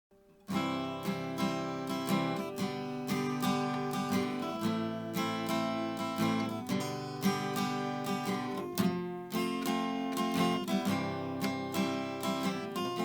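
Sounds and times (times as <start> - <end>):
strummed acoustic guitar: 0.2 - 13.0.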